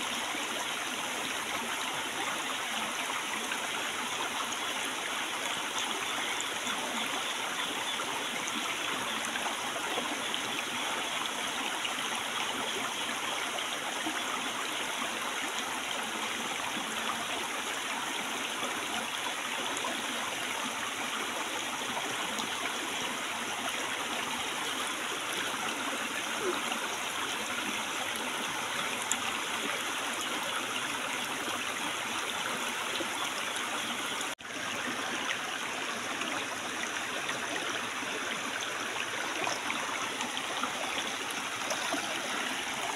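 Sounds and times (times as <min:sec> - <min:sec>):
stream flowing over stones: 0:00.0 - 0:42.9.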